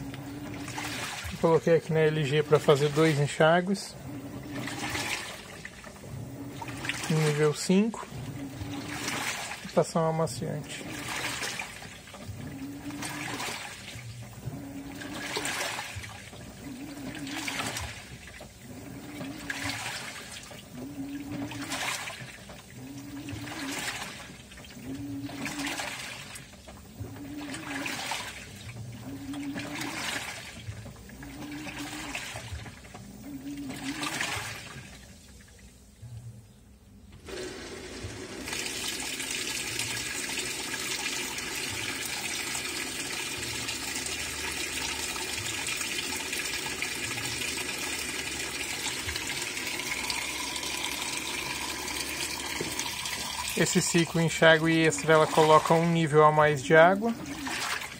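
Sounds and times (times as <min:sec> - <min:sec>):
water pouring into tub: 0:00.0 - 0:35.6, 0:37.3 - 0:57.9
water swishing: 0:00.0 - 0:35.8, 0:37.3 - 0:57.9
washing machine motor whine: 0:00.0 - 0:57.9.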